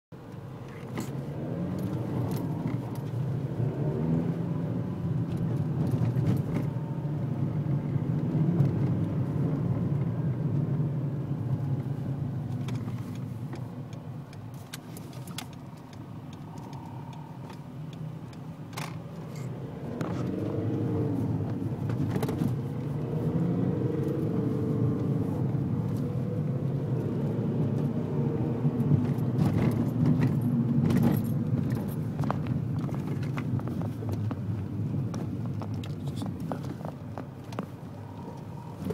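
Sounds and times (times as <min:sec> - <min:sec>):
strange engine noise: 0:00.2 - 0:38.9
car engine accelerating: 0:00.7 - 0:13.3, 0:15.5 - 0:38.9.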